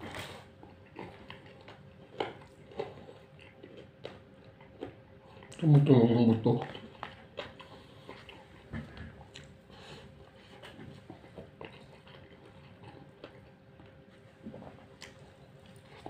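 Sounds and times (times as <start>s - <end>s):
faint chewing: 0.0s - 16.0s
faint steady hum: 0.0s - 16.0s.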